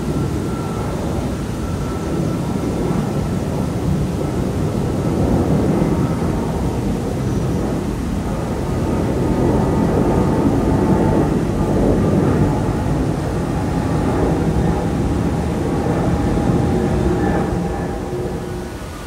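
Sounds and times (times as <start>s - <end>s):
faint jet engine whine: 0.0s - 19.0s
jet airliner engine rumble: 0.0s - 19.0s.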